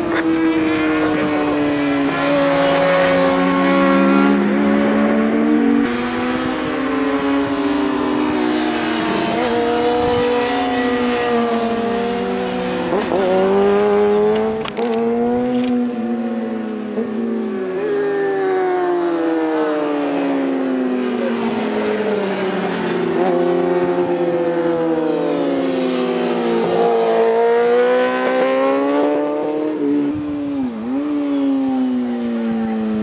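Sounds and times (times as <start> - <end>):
racing motorcycle engines revving: 0.0 - 33.0.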